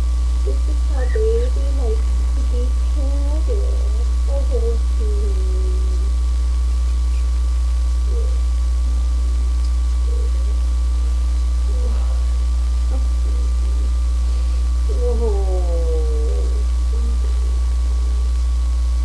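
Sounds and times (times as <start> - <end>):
faint high whine: 0.0 - 19.0
low electrical hum: 0.0 - 19.0.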